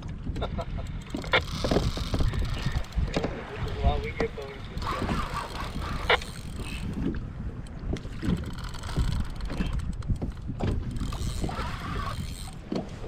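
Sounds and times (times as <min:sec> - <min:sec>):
water lapping against kayak: 0:00.0 - 0:13.0
wind buffeting microphone: 0:00.0 - 0:13.0.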